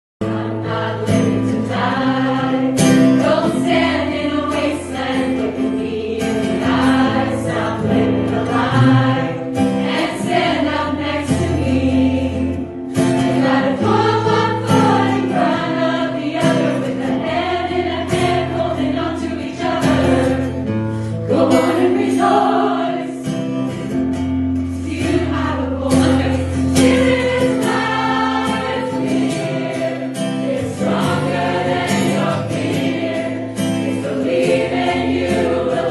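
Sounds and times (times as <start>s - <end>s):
choir singing gospel song: 0.2s - 35.9s
instrumental backing: 0.3s - 35.9s.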